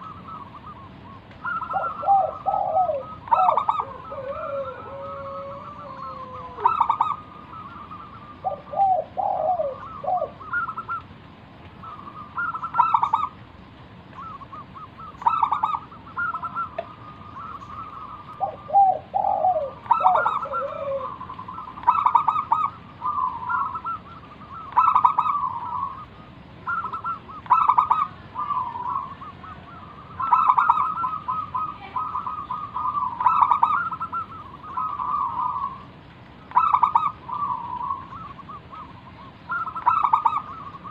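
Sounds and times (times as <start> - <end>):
dove trilled cooing: 0.0 - 40.9
lower falling bird call: 0.0 - 40.9.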